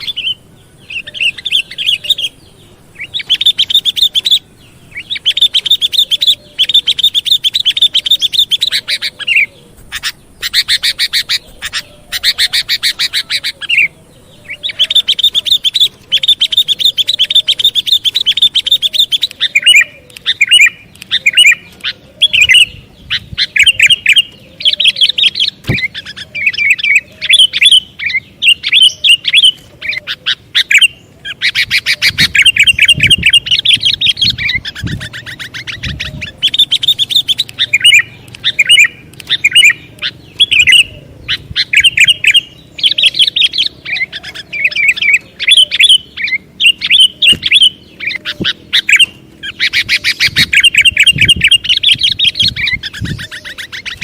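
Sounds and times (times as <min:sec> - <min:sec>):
bird chattering: 0:00.0 - 0:54.0
birds chirping: 0:00.0 - 0:54.0.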